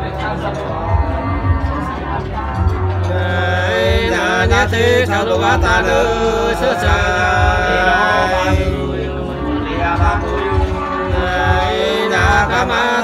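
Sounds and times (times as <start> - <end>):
two men singing unaccompanied: 0.0 - 13.0.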